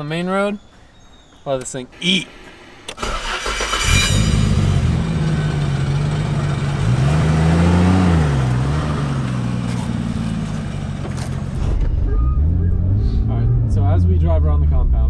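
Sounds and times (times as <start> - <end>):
car engine idling and revving: 2.3 - 15.0.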